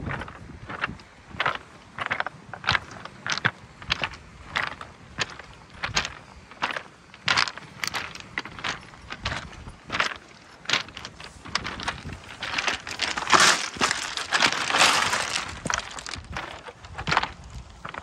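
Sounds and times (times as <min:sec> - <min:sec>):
footsteps on pebbles: 0:00.0 - 0:18.0.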